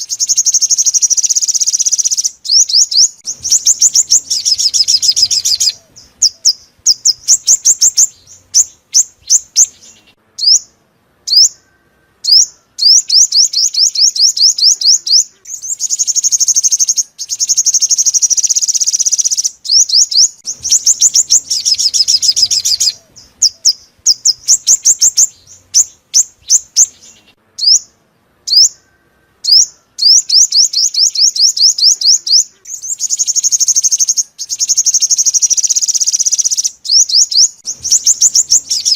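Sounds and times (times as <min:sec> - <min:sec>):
sunbird chirps and buzzy trills: 0:00.0 - 0:38.9.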